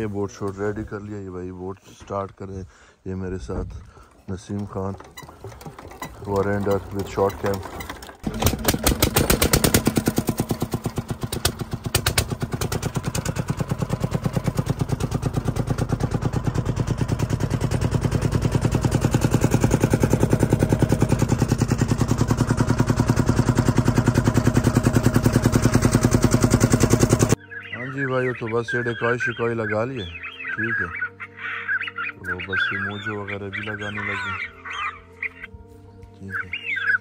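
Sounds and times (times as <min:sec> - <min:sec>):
small boat engine chugging: 0:04.5 - 0:35.5.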